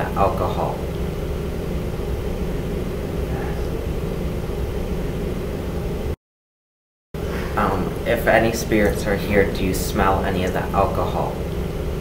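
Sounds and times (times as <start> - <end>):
low rumble and hum: 0.0 - 6.2, 7.2 - 12.0.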